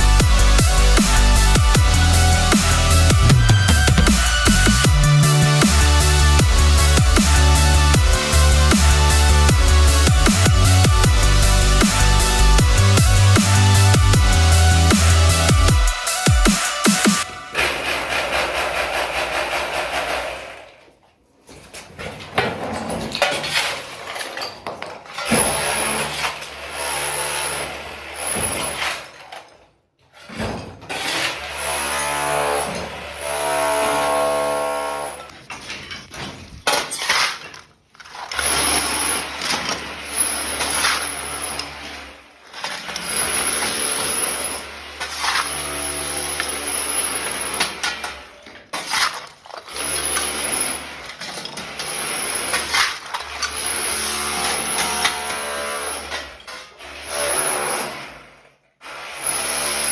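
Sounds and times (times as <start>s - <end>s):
power tool chipping tiles: 0.0s - 20.8s, 22.1s - 59.9s.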